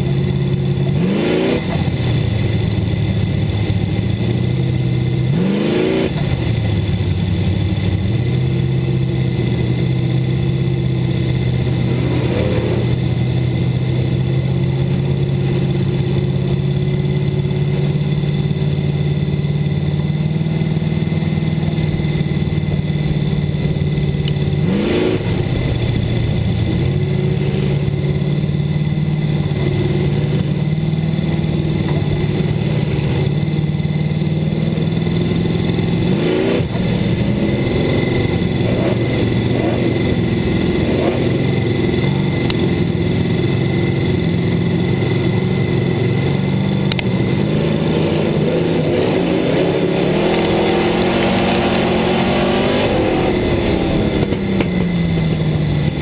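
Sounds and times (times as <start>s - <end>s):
engine throttle blips: 0.0s - 56.0s
race car engine at low revs: 0.0s - 56.0s.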